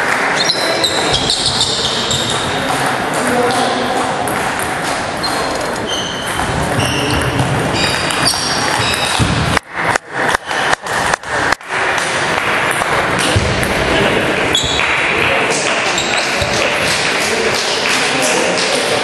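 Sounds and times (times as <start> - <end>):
hall noise din: 0.0 - 19.0
table tennis balls pinging: 0.0 - 19.0.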